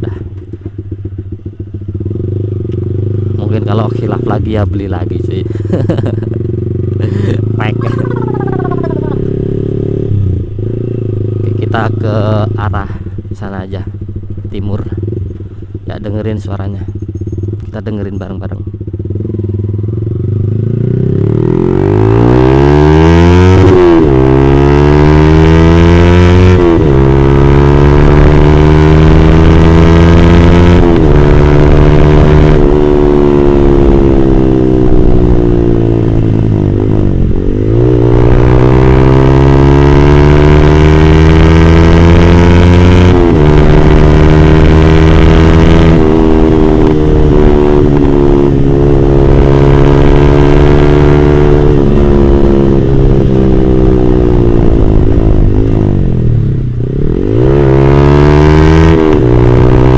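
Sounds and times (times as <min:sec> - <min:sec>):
motorcycle accelerating through gears: 0:00.0 - 0:59.9.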